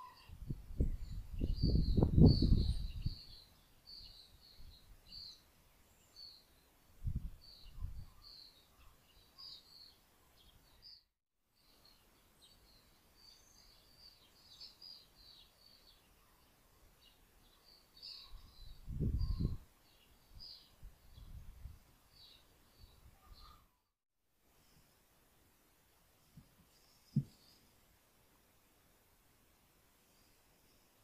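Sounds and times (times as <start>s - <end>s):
small birds chirping: 0.0s - 23.9s, 26.2s - 27.8s.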